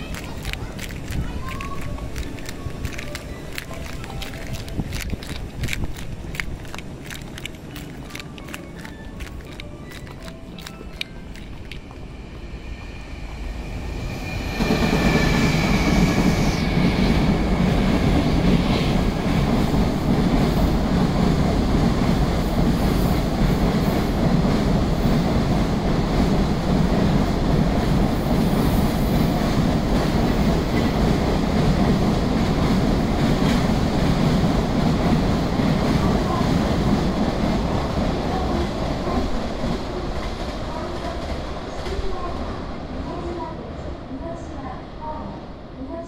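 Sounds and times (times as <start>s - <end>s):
electric locomotive whine: 0.0s - 41.8s.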